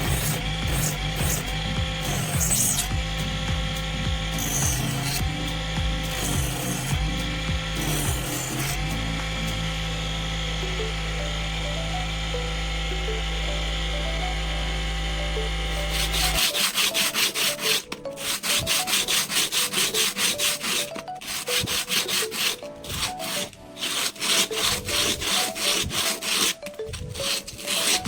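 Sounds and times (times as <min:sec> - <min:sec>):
faint background music: 0:00.0 - 0:28.0
motor hum: 0:00.0 - 0:28.0.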